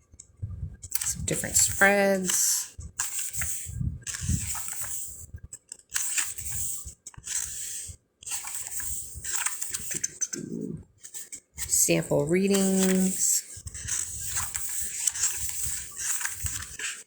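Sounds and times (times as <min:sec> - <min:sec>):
book pages rustling: 0:00.9 - 0:10.3, 0:12.4 - 0:17.0.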